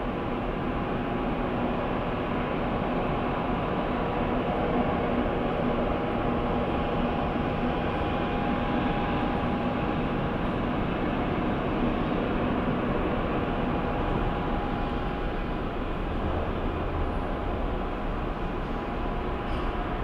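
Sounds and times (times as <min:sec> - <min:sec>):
faint steady whine: 0:00.0 - 0:20.0
low rumble of engines and brushes: 0:00.0 - 0:20.0.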